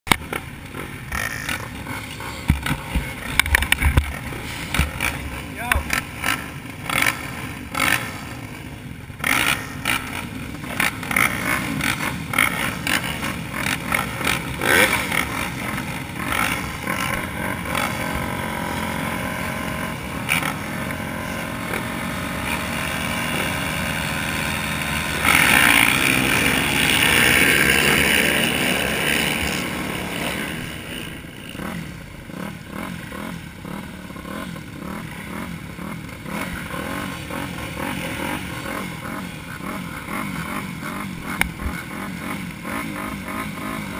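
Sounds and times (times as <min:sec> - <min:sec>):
motocross bikes idling: 0:00.2 - 0:43.9
engines revving together: 0:00.7 - 0:43.9.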